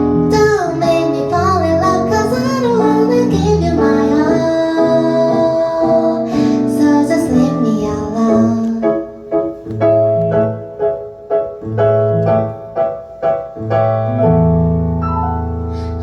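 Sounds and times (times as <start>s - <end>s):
piano keyboard chords: 0.0s - 16.0s.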